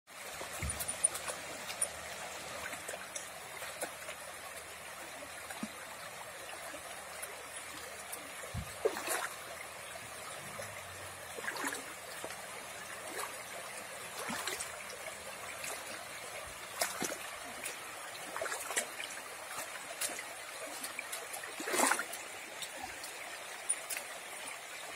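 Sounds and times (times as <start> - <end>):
stream running over stones: 0.1 - 24.9
small splashes and clicks: 0.2 - 24.9.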